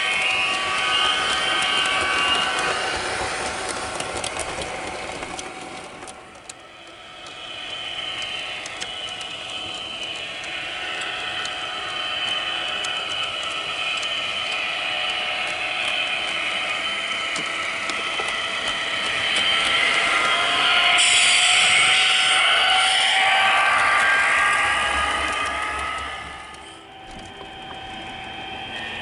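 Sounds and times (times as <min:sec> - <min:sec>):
model train motor whine: 0:00.0 - 0:29.0
wheels clicking over rail joints: 0:00.0 - 0:29.0.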